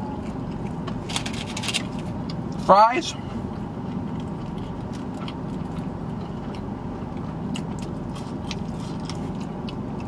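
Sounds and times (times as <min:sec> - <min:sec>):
person chewing fries: 0:00.0 - 0:02.6, 0:03.2 - 0:10.0
steady low hum: 0:00.0 - 0:10.0.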